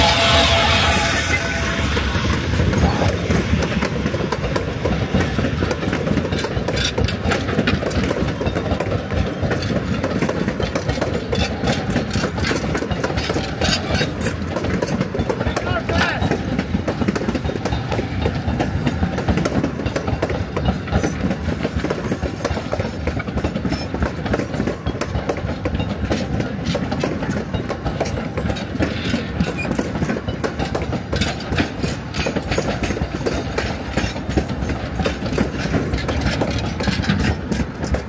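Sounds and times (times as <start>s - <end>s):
steam train wheels clattering: 0.0s - 38.0s.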